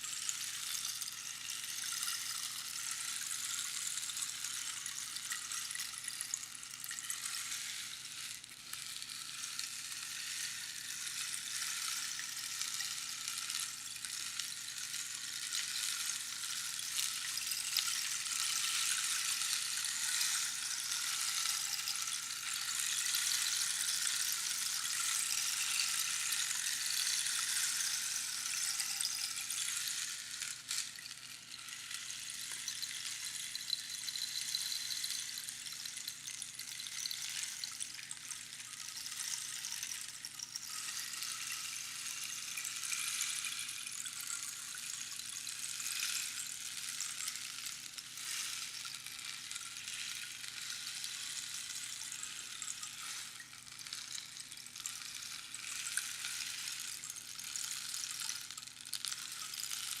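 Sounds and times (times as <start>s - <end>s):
rainstick hissing patter: 0.0s - 60.0s.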